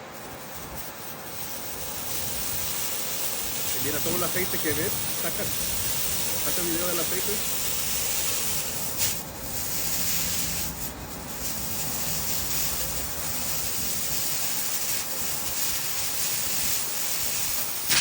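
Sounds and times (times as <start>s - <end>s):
gas hissing from a line: 0.0s - 18.0s.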